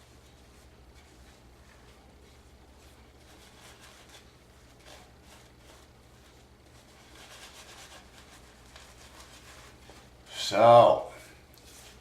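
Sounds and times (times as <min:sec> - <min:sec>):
shaving brush rubbing lather: 0:00.0 - 0:11.0.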